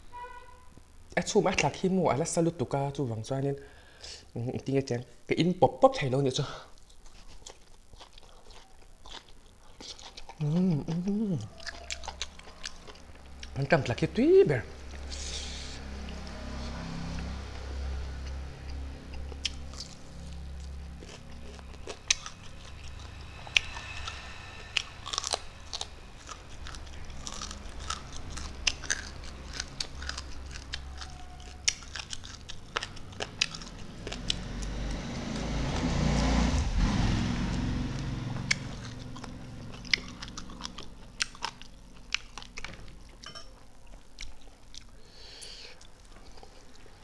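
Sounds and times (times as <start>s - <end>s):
chewing and crunching food: 6.6s - 36.6s, 37.4s - 47.0s.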